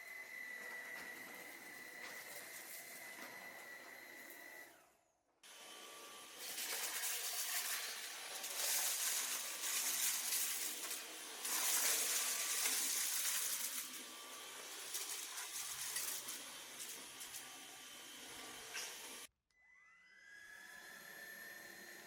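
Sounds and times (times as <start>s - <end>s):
stick vacuum running: 0.0s - 22.0s.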